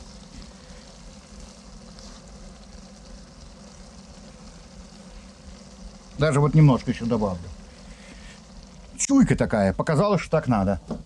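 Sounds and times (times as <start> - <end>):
meat sizzling: 0.0 - 11.0.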